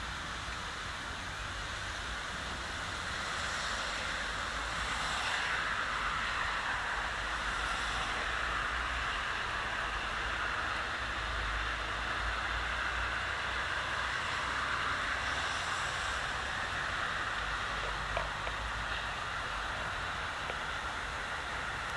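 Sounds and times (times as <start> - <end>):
steady hiss: 0.0 - 21.9.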